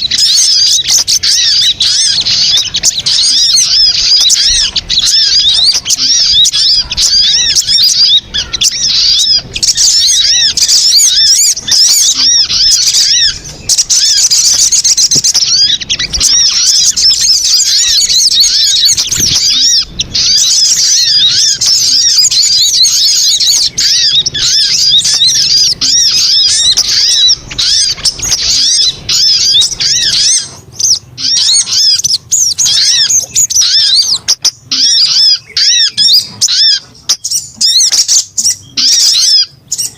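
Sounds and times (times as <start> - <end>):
bird song chatter: 0.0 - 39.9.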